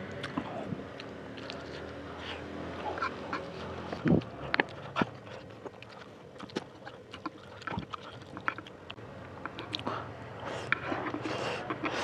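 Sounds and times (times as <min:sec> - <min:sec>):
man chewing wet mouth clicks: 0:00.1 - 0:12.0.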